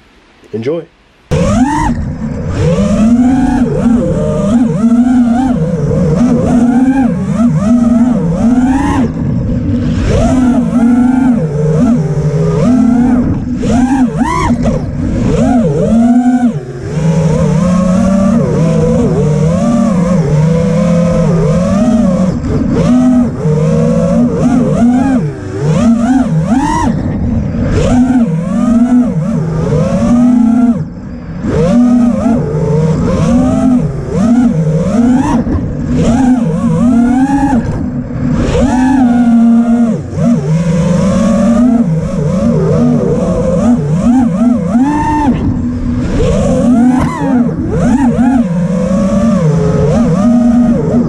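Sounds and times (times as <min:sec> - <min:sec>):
drone motors buzzing whine: 0:01.2 - 0:51.0.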